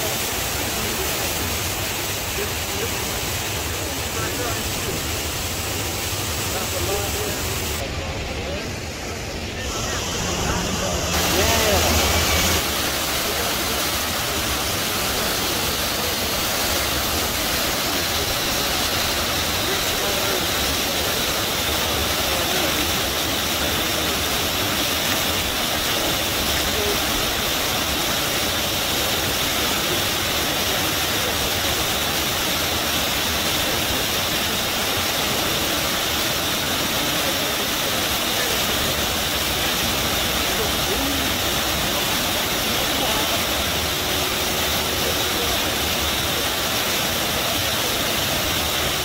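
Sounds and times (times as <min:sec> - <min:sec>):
river water rushing: 0:00.0 - 0:49.0.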